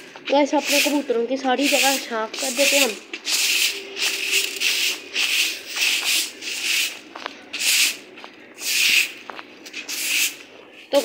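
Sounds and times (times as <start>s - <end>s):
broom sweeping concrete floor: 0.3s - 11.0s.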